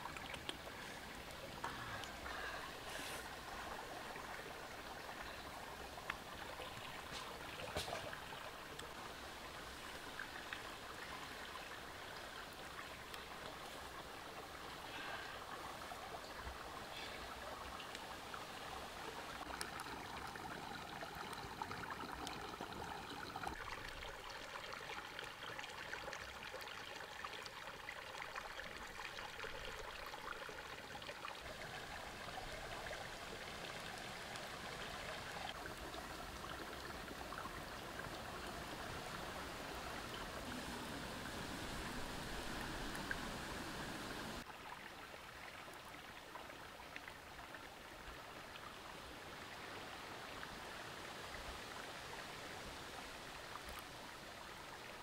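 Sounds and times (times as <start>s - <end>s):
rocky stream running: 0.0s - 55.0s.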